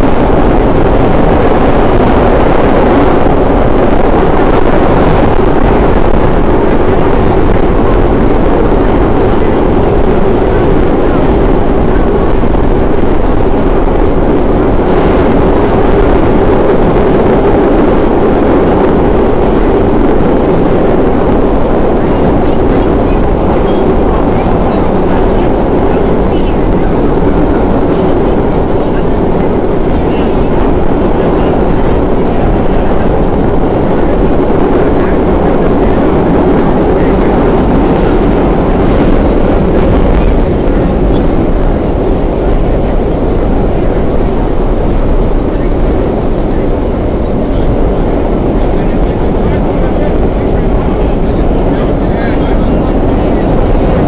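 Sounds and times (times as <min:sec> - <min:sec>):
subway train wheels rumbling on rail: 0:00.0 - 0:54.0.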